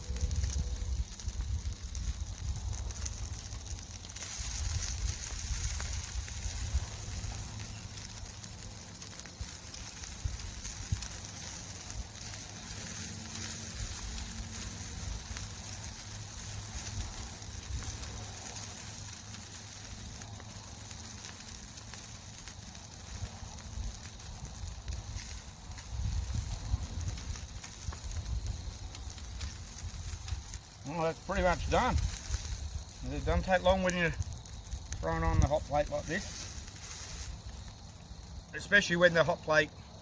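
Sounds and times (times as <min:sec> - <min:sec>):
egg sizzling on hot plate: 0:00.0 - 0:34.1.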